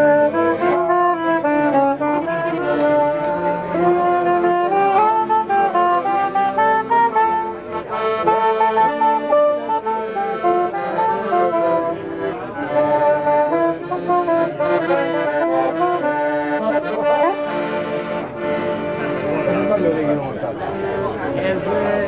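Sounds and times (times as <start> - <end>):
clarinet: 0.0 - 22.0
piano accordion: 0.0 - 22.0.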